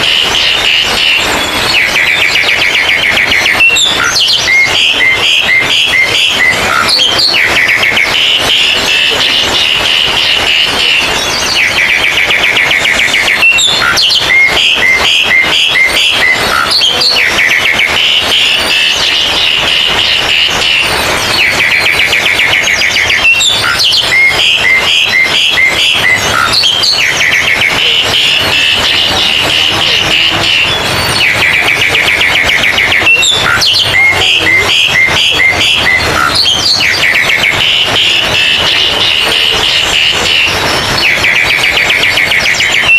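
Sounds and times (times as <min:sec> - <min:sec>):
repeated whistled bird notes: 0:00.0 - 0:42.9.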